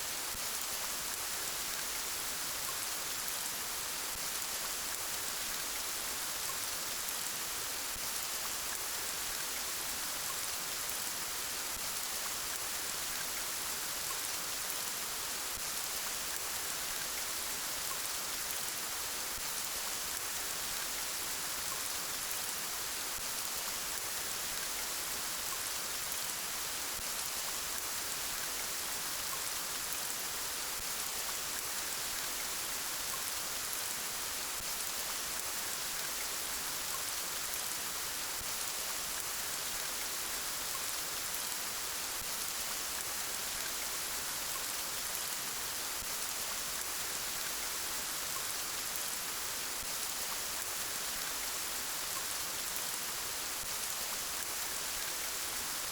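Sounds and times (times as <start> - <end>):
gentle rain hiss: 0.0 - 55.9.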